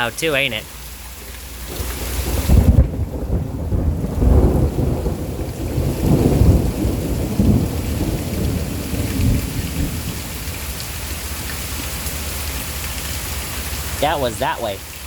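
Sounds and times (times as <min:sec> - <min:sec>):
heavy rain: 0:00.0 - 0:15.0
thunder rumbling: 0:01.7 - 0:14.6.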